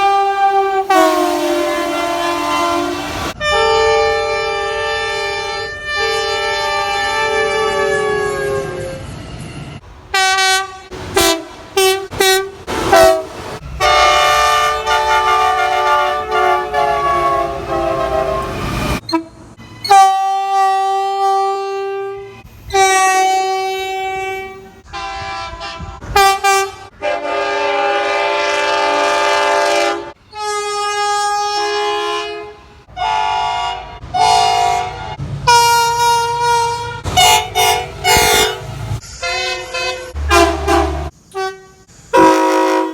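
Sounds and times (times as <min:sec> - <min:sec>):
train horns blasting: 0:00.0 - 0:09.1, 0:10.1 - 0:42.9.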